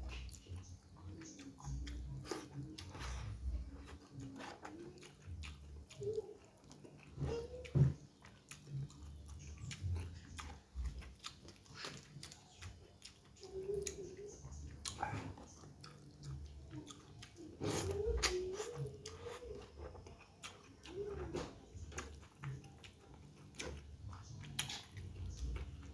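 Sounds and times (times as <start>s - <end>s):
wet chewing and mouth smacks: 0.0s - 25.9s.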